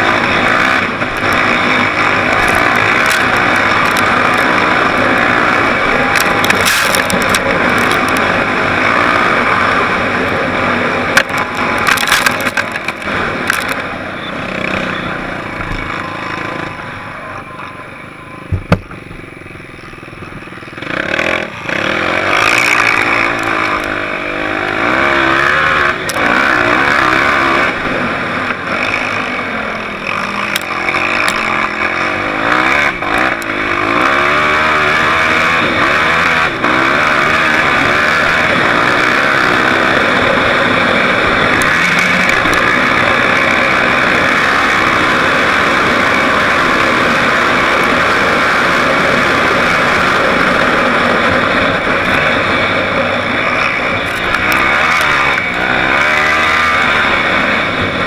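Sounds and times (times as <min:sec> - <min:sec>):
off-road vehicle engine revving: 0:00.0 - 0:17.3, 0:20.7 - 0:58.0.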